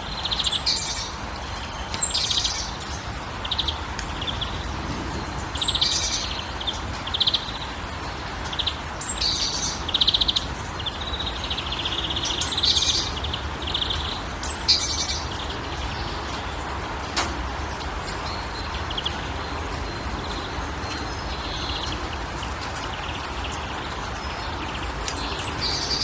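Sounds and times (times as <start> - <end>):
background hiss and rumble: 0.0 - 26.0
songbird chirping and trilling: 0.0 - 26.0.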